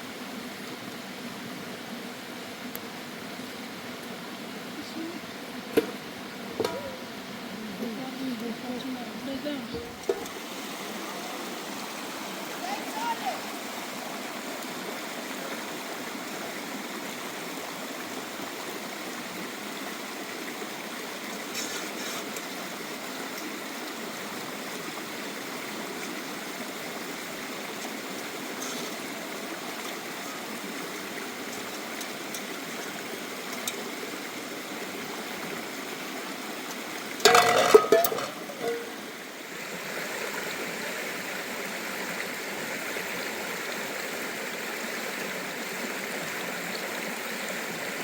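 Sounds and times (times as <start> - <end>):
stream water running: 0.0 - 48.0.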